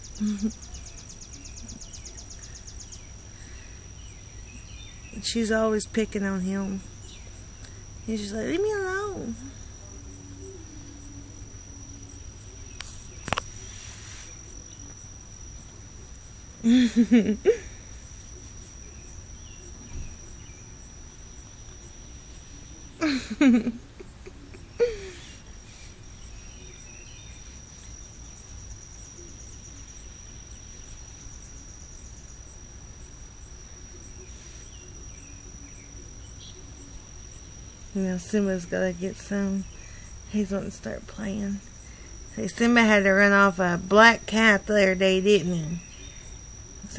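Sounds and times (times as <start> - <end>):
cricket trilling: 0.0 - 46.9.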